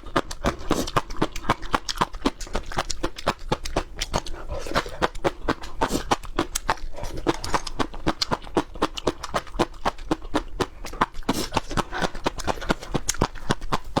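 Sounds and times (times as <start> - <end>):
animal crunching peppers: 0.0 - 14.0.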